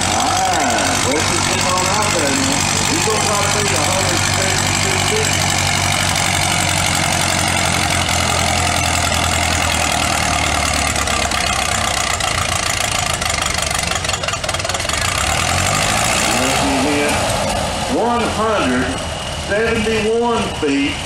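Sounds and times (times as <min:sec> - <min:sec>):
tractor engine under heavy load: 0:00.0 - 0:21.0.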